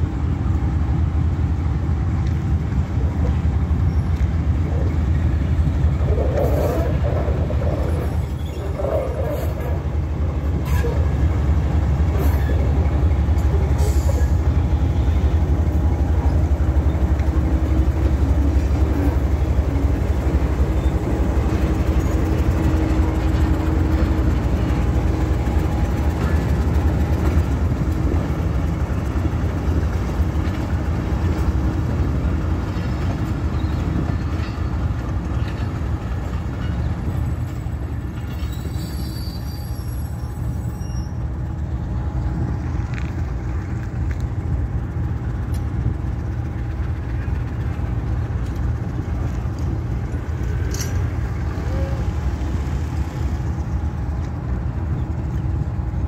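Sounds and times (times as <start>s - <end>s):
diesel locomotive rumbling past: 0.0s - 56.0s
train coaches rolling past: 0.0s - 56.0s.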